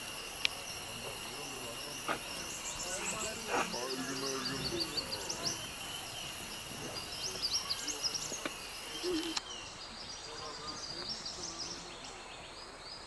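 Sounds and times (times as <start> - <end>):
high insect drone: 0.0 - 13.0
lower insect drone: 0.0 - 13.0
birds chirping: 0.1 - 13.0.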